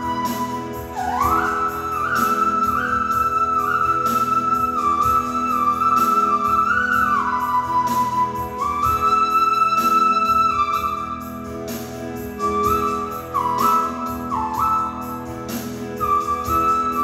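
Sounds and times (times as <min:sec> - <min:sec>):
keyboard flute melody: 0:00.0 - 0:17.0
light drum pattern: 0:00.0 - 0:17.0.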